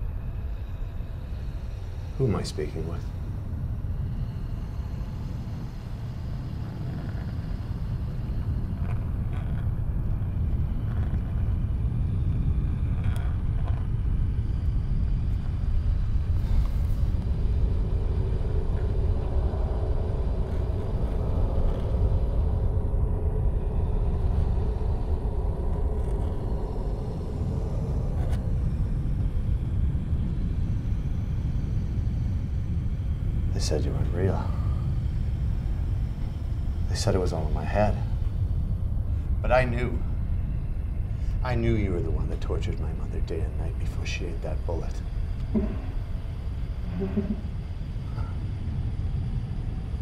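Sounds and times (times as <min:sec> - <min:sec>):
low rumbling drone: 0:00.0 - 0:50.0.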